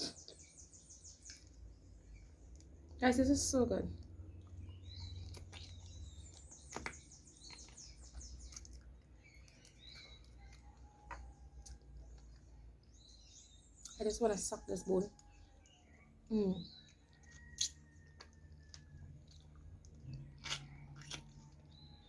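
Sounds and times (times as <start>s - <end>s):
person chewing food: 0.0s - 3.0s, 4.0s - 14.0s, 15.2s - 22.0s
birds chirping: 0.0s - 22.0s.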